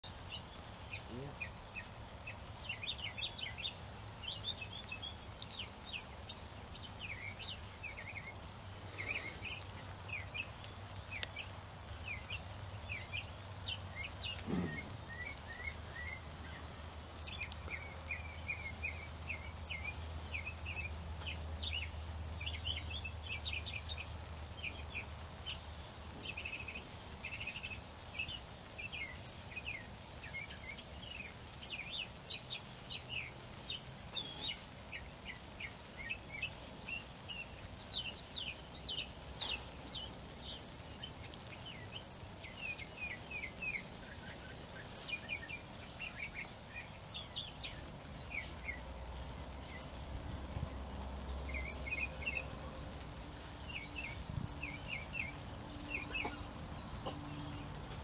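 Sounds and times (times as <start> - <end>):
flock of blackbirds calling: 0.0 - 58.0.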